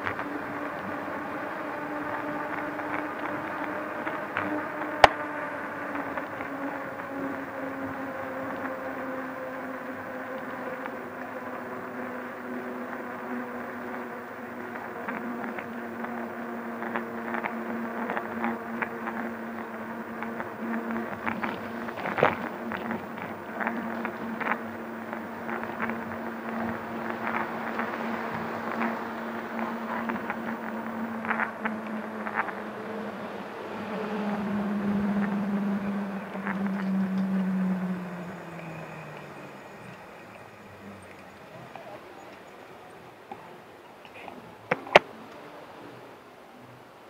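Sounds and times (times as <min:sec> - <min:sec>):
electric bike motor whining: 0:00.0 - 0:42.9.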